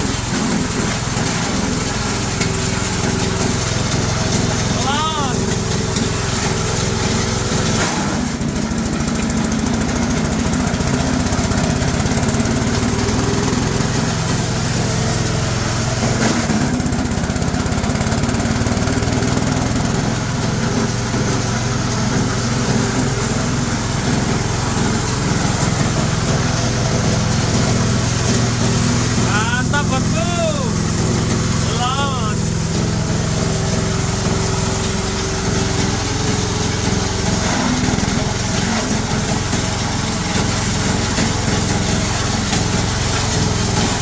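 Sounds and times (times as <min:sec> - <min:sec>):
shredder machine grinding branches: 0:00.0 - 0:44.0.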